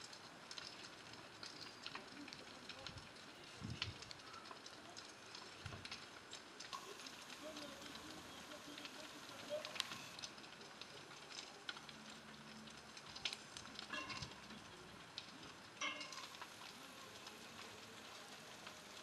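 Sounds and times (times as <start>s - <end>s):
distant fire crackling: 0.0s - 19.0s
steady hiss: 0.0s - 19.0s.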